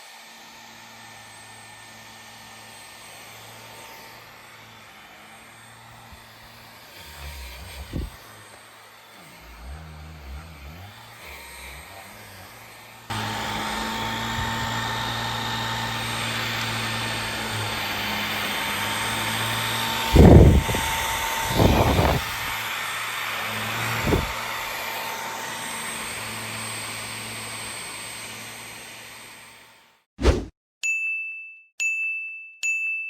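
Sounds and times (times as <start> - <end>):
vacuum cleaner running: 0.0 - 29.8.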